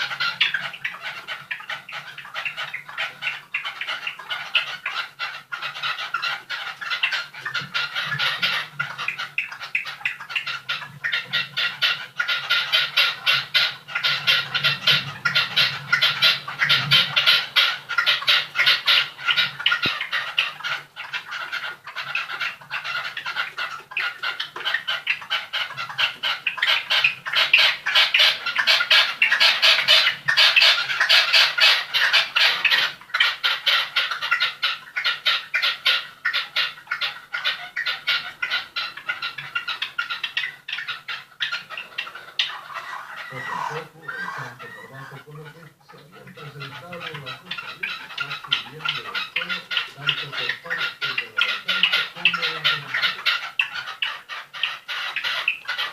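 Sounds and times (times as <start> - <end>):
small birds trilling: 0.0 - 55.9.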